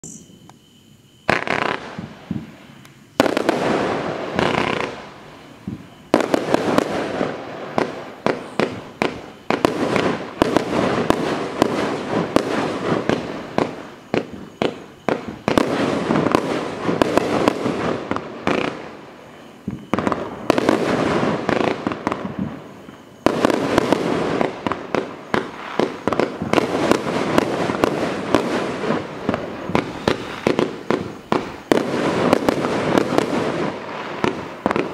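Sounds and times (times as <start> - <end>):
fireworks bursting overhead: 1.1 - 34.9
firework cake firing volleys: 1.3 - 34.9.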